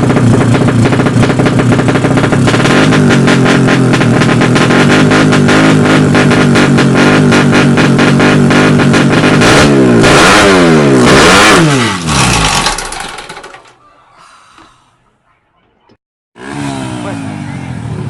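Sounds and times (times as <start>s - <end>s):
motorcycle engine at high revs: 0.0s - 13.6s, 16.4s - 18.0s.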